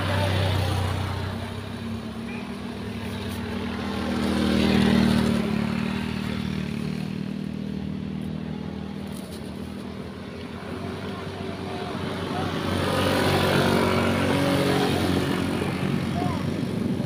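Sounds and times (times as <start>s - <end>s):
motorcycles passing by: 0.0s - 17.0s.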